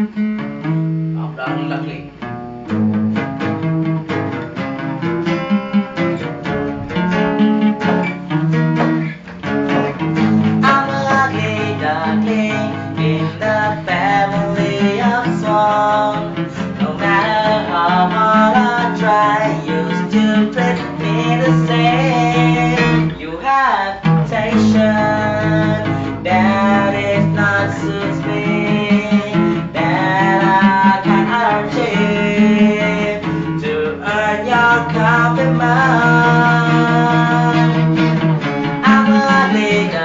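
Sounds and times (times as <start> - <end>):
plucked acoustic guitar: 0.0 - 40.0.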